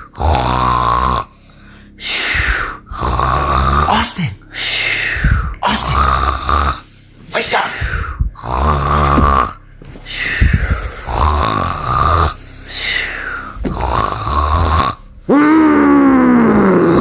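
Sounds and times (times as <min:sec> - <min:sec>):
person snoring loudly: 0:00.0 - 0:01.4, 0:02.0 - 0:06.9, 0:07.5 - 0:17.0
loud drawn-out groan: 0:00.0 - 0:17.0.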